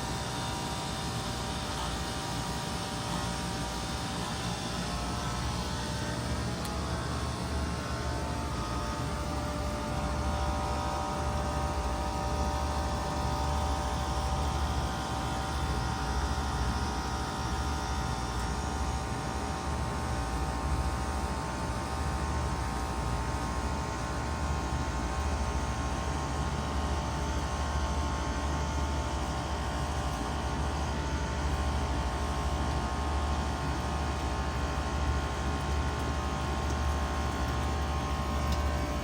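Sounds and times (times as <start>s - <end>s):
heat pump hiss: 0.0s - 39.0s
heat pump humming: 0.0s - 39.0s.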